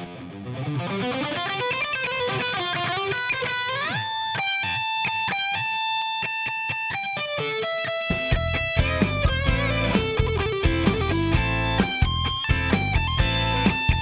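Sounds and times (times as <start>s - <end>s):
electric guitar melody: 0.0s - 14.0s.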